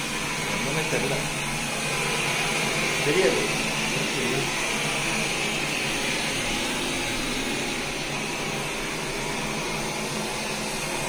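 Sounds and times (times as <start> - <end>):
steam hissing from outlet: 0.0 - 11.0.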